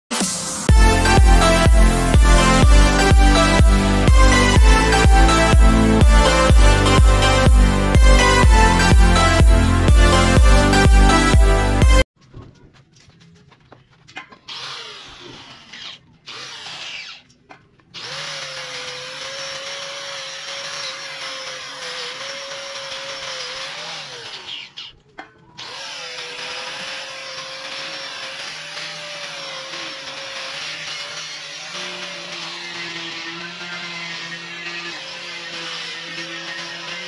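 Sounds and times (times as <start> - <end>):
angle grinder on metal: 0.7 - 12.0, 14.4 - 37.0.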